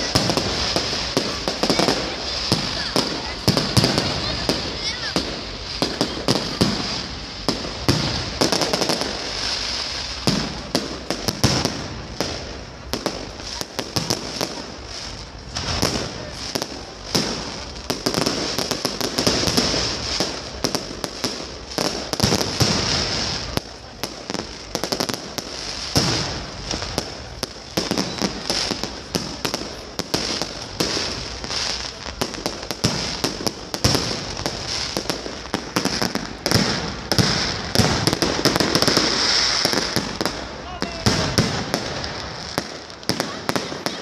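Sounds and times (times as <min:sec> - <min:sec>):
fireworks bangs and crackles: 0:00.0 - 0:44.0
steady high hiss: 0:00.0 - 0:44.0.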